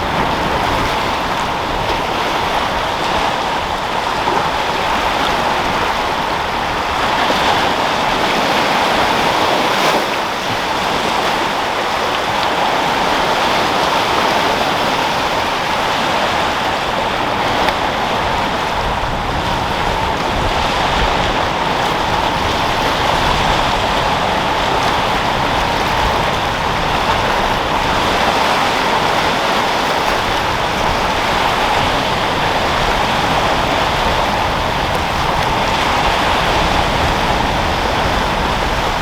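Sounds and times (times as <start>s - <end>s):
sea waves breaking: 0.0s - 39.0s
wind: 0.0s - 39.0s.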